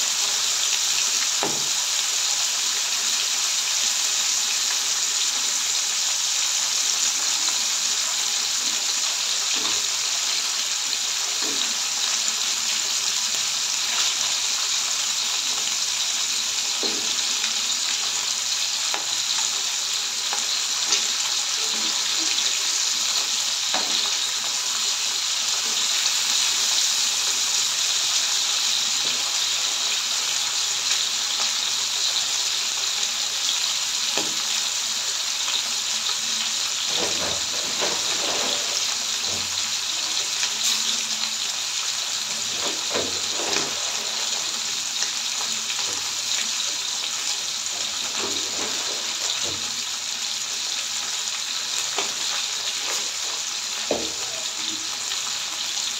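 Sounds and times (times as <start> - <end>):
fish sizzling in oil: 0.0 - 55.9.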